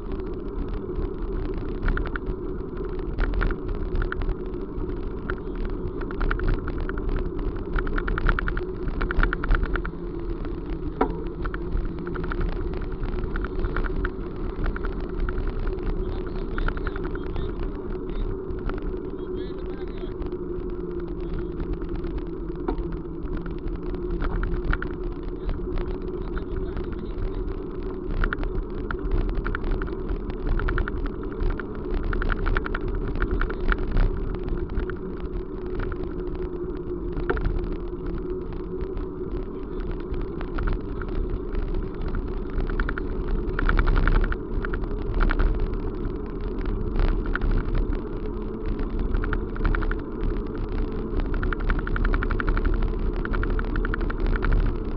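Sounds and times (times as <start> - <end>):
small clicks and rattles: 0.0 - 54.9
vehicle running hum: 0.0 - 54.9.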